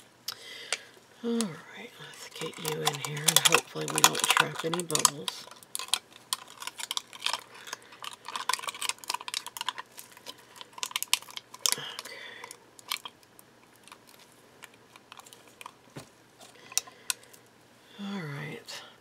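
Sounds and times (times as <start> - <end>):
crackling and crinkling: 0.0 - 17.6
small clicks and handling noises: 2.2 - 17.5.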